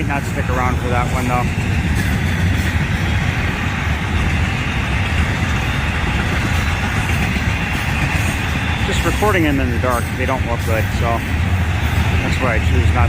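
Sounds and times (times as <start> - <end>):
freight train rumbling on rails: 0.0 - 13.0.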